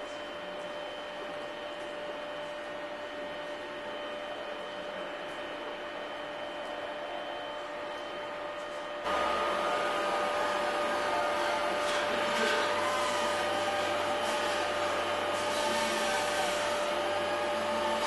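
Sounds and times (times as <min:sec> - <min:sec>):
mechanical hum with high whine: 0:00.0 - 0:18.0.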